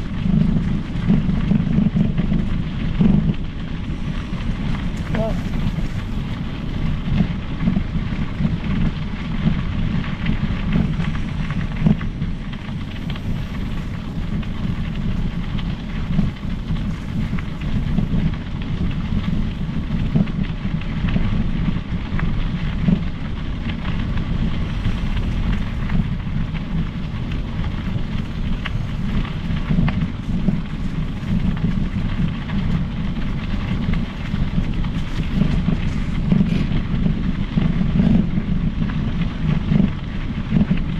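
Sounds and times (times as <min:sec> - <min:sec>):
bike tyres rolling on trail: 0:00.0 - 0:40.9
small clicks and rattles: 0:00.0 - 0:40.9
wind rumble on microphone: 0:00.0 - 0:40.9.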